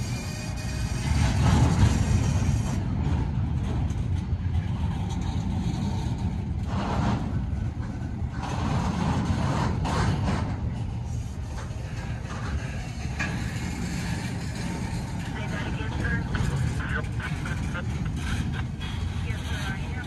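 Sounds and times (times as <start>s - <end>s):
heavy vehicle rumbling: 0.0s - 20.0s
rushes of noise: 0.0s - 20.0s.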